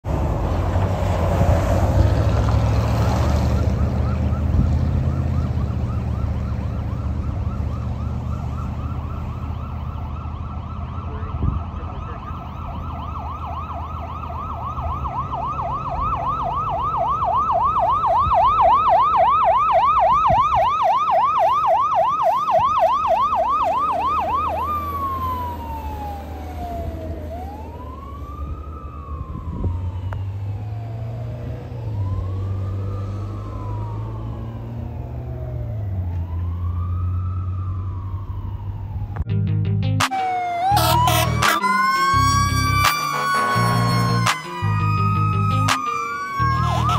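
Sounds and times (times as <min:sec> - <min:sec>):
fire engine siren: 0:00.0 - 0:39.3, 0:40.0 - 0:46.9
engine hum: 0:00.0 - 0:46.9
road traffic: 0:00.0 - 0:46.9.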